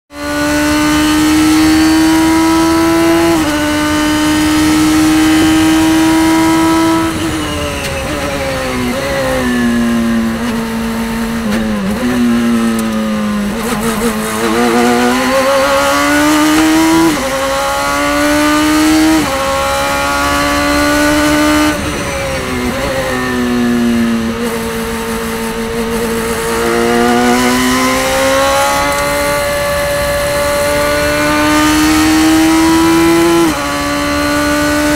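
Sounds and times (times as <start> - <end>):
race car engine at speed: 0.1 - 34.9.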